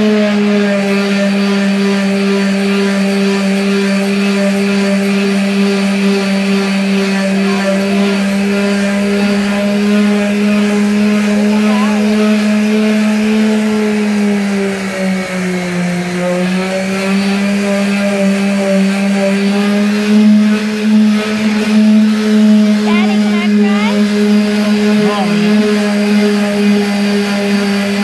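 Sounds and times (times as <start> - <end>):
electric sander humming: 0.0 - 28.0.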